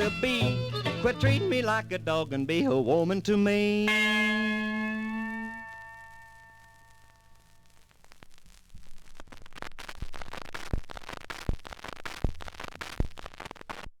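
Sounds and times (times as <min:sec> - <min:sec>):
record surface crackle and hiss: 0:00.0 - 0:14.0.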